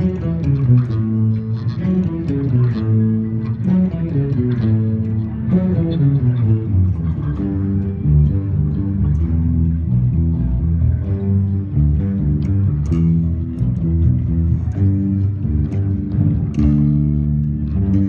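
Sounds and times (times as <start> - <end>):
electric bass guitars playing riff: 0.0 - 18.0.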